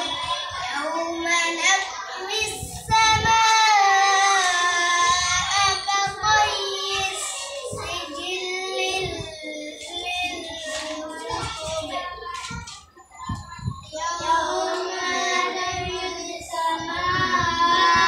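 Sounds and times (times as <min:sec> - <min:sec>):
boy chanting melodically: 0:00.0 - 0:18.0.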